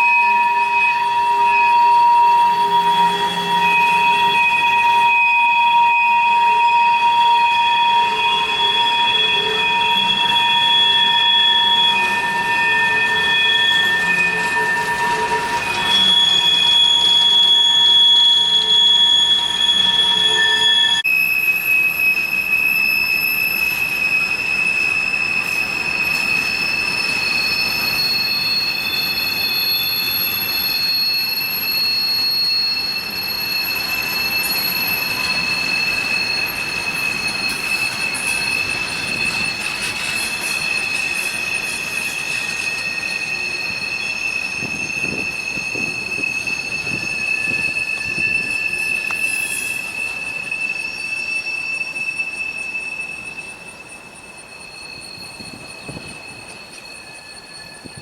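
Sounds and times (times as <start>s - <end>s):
train wheels squealing: 0.0s - 58.0s.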